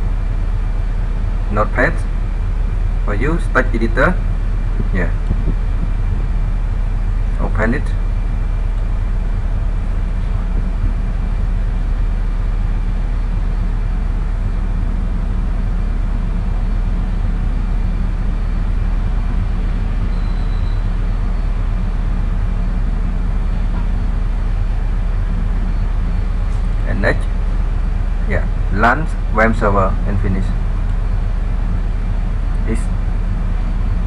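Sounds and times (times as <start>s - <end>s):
low hum: 0.0s - 34.0s
microphone hiss: 0.0s - 34.0s.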